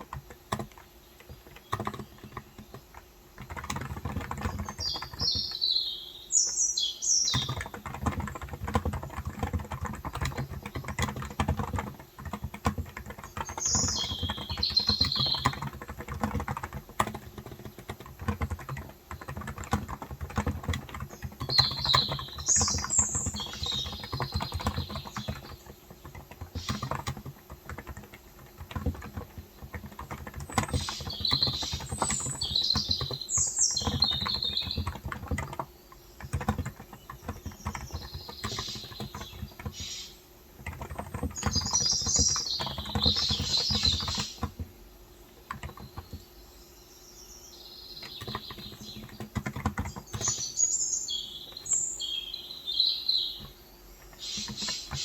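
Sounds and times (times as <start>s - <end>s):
keyboard typing clicks: 0.0s - 46.6s, 47.9s - 55.0s
birds chirping: 0.0s - 55.0s.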